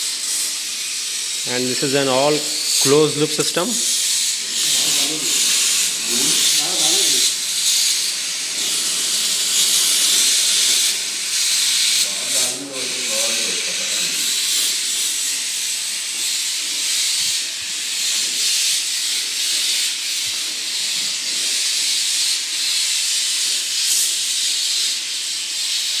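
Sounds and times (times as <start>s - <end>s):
torch flame hissing: 0.0s - 26.0s.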